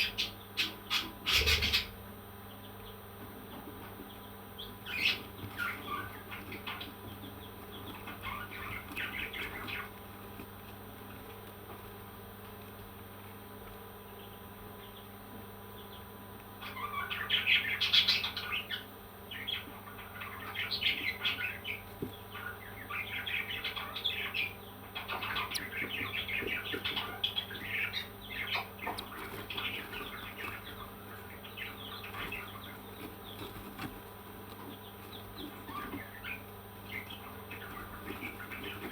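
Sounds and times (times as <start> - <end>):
parrots chirping and chattering: 0.0 - 13.0, 15.7 - 38.9.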